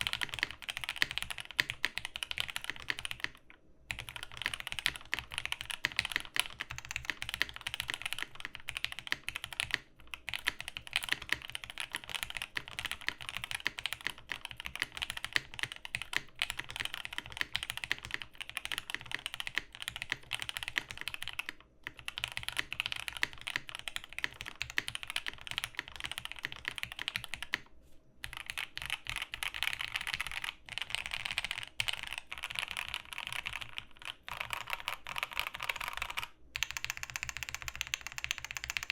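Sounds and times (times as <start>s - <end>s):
faint fan hum: 0.0s - 38.9s
fast typing on mechanical keyboard: 0.0s - 38.9s.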